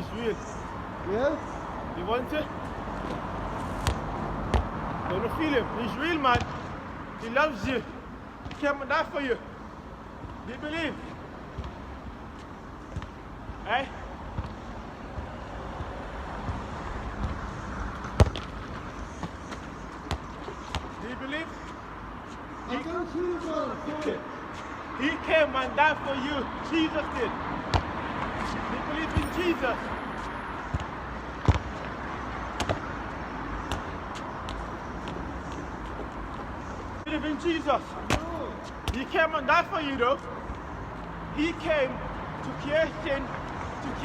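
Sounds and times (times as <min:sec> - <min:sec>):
street background noise: 0:00.0 - 0:44.0.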